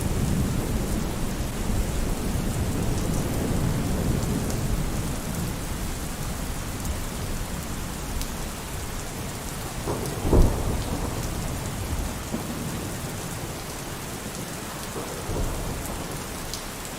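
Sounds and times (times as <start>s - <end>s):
thunderclap rumbling: 0.0s - 7.6s, 9.4s - 14.2s, 14.8s - 16.6s
heavy rain falling: 0.0s - 16.9s.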